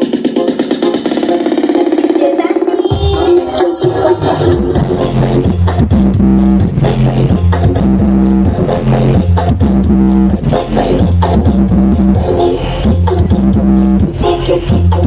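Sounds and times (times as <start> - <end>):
loud dance music with heavy bass: 0.0 - 15.0.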